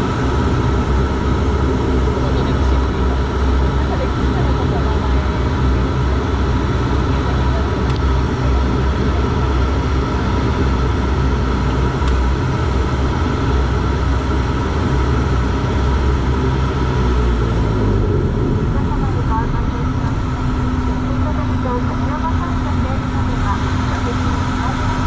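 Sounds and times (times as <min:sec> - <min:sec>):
propeller engine droning: 0:00.0 - 0:25.0.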